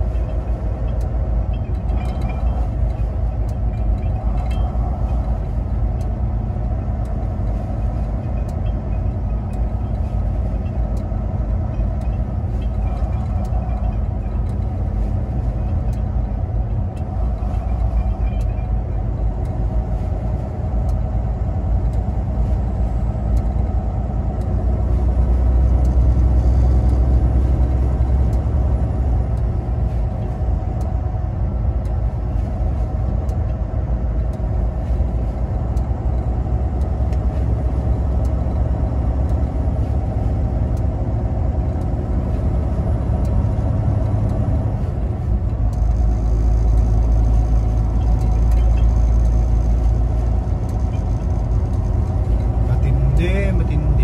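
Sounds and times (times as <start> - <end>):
truck diesel engine and tyres droning: 0.0 - 54.0.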